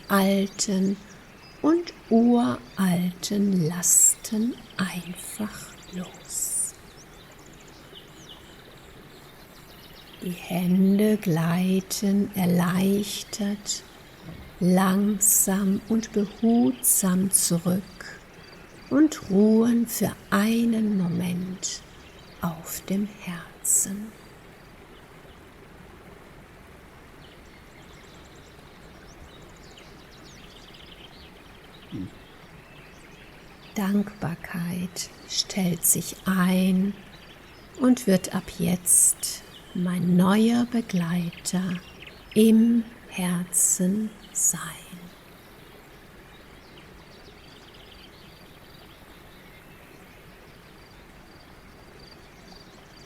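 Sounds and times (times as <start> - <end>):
small birds chirping and trilling: 0.0 - 53.0
steady outdoor hiss: 0.0 - 53.0.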